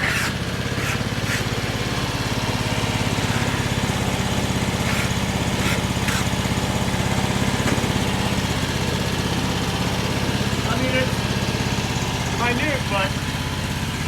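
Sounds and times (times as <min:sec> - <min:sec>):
sawmill engine running steadily: 0:00.0 - 0:14.0.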